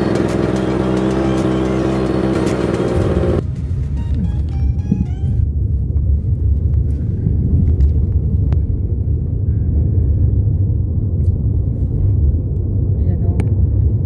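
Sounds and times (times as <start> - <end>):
car road and tyre noise: 0.0 - 14.0.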